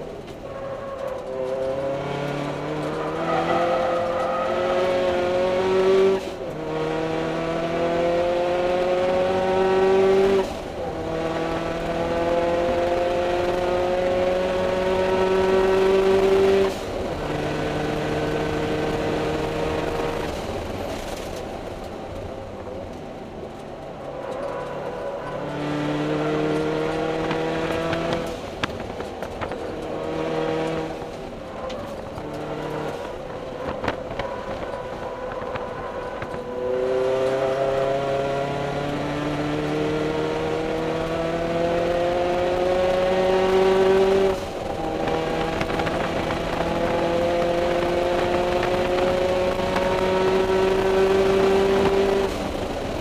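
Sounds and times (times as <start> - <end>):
car engine accelerating hard: 0.8 - 53.0.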